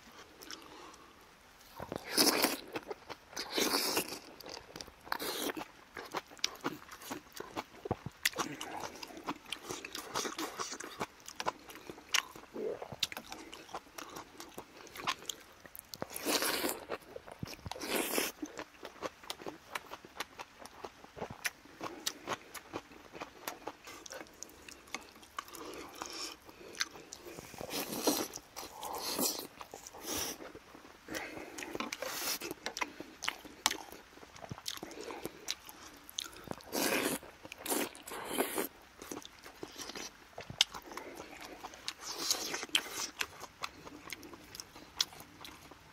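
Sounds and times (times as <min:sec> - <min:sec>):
close chewing and biting: 0:01.7 - 0:45.9.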